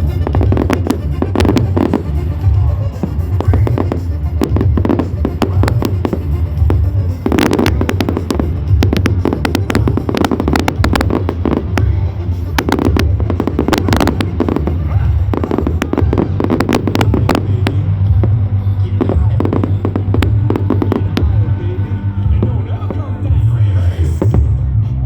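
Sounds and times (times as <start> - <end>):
fireworks bangs and crackles: 0.0 - 24.6
low rumble: 0.0 - 25.0.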